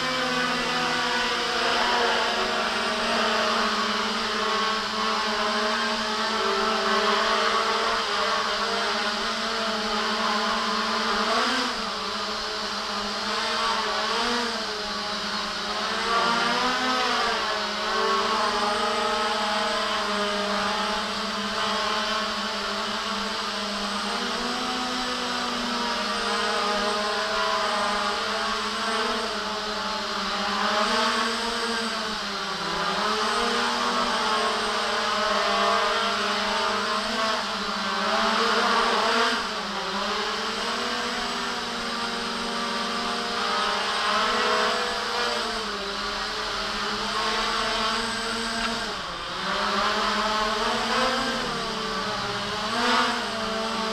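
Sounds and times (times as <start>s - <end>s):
quadcopter propellers whirring: 0.0s - 53.9s.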